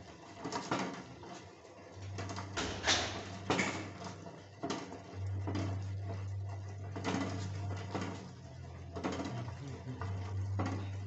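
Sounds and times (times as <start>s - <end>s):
water boiling in a pot: 0.0s - 11.0s
low steady hum: 1.8s - 11.0s.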